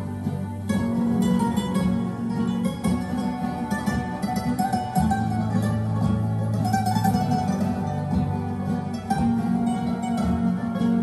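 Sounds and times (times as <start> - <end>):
flamenco guitar music on vinyl: 0.0 - 11.0.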